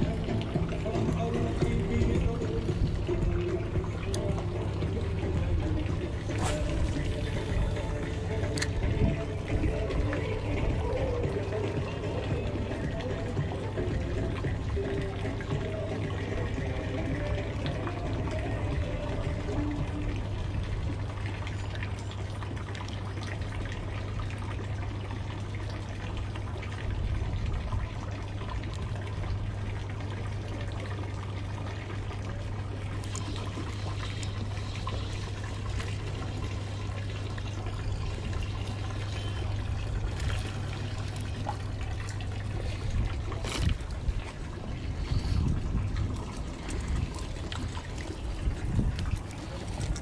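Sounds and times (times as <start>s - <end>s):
steady low hum: 0.0s - 50.0s
water sloshing against boats: 0.0s - 50.0s.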